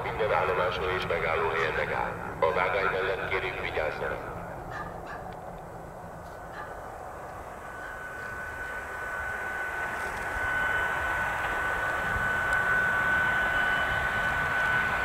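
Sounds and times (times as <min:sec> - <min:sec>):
high whine: 0:00.0 - 0:15.0
train rail noise rushing: 0:00.0 - 0:15.0.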